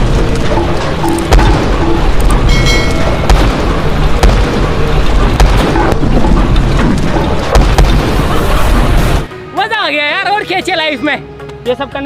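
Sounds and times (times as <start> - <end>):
road roller rumbling: 0.0 - 12.0.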